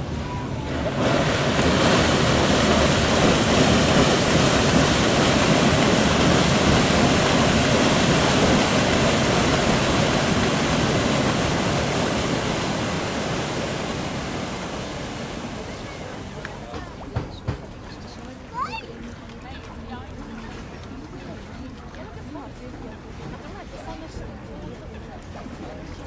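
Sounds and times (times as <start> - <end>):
paddle wheels churning water: 0.0 - 26.0.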